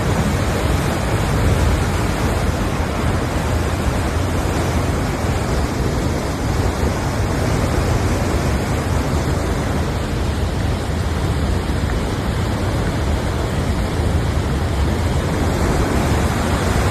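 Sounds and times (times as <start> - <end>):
mudflow rushing down waterfall: 0.0 - 16.9.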